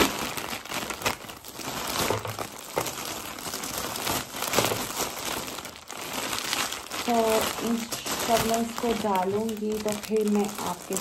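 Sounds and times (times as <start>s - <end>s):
plastic bag crinkling and rustling: 0.0s - 11.0s.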